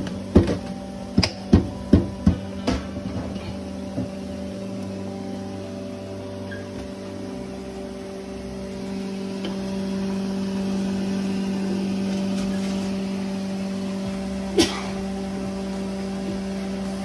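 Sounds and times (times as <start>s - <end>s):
kitchen machine hum: 0.0s - 17.0s.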